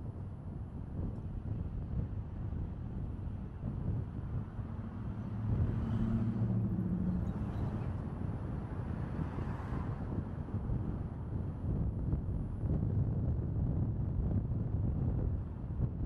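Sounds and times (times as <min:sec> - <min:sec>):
road rumble and wind noise: 0:00.0 - 0:16.0
vehicle engine hum: 0:00.0 - 0:16.0.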